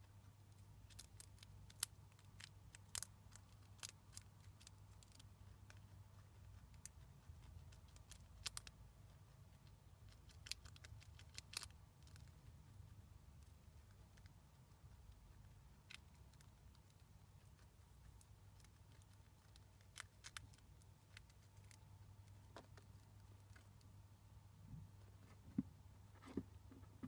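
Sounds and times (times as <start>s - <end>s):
chinchilla crunching a nut: 0.5s - 12.7s, 13.4s - 23.9s.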